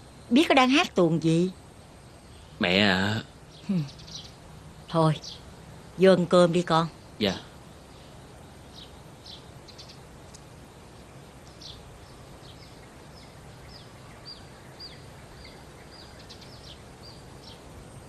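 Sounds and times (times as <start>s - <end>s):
birds chirping: 0.0s - 18.0s
low background noise: 0.0s - 18.0s.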